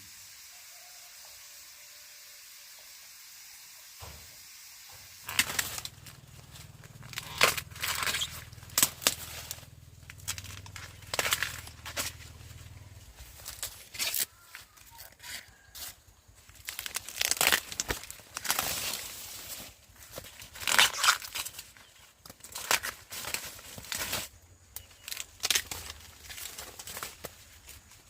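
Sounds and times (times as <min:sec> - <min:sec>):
dry corn leaves rustling: 0:05.2 - 0:28.0.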